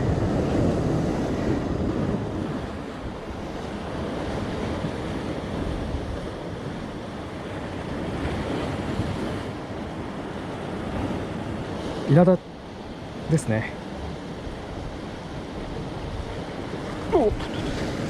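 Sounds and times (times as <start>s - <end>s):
wind buffeting microphone: 0.0s - 11.9s, 13.9s - 18.0s
surf washing against rocks: 0.0s - 18.0s.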